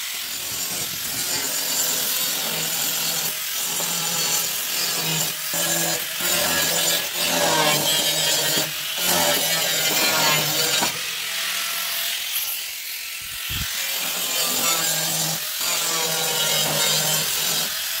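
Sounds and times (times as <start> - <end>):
angle grinder grinding steel: 0.0 - 18.0.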